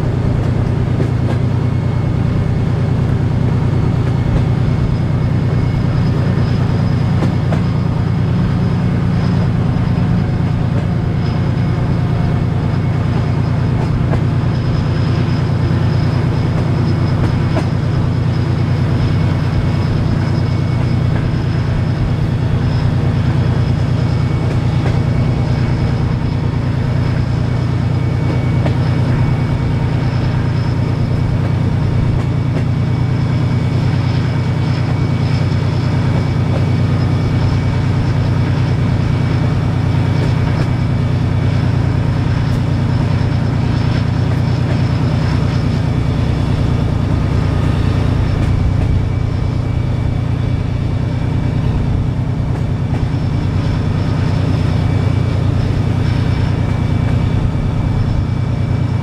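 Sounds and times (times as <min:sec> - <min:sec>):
diesel locomotive engine droning: 0:00.0 - 0:59.0
train wheels on rails: 0:00.0 - 0:59.0.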